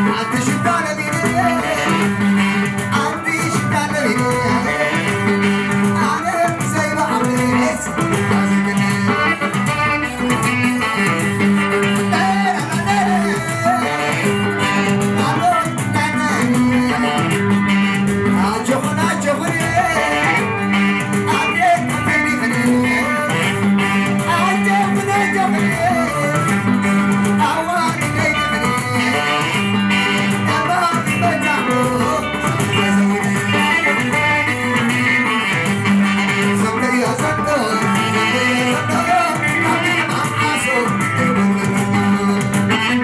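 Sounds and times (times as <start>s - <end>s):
electric guitar: 0.0s - 43.0s
live dance music: 0.0s - 43.0s.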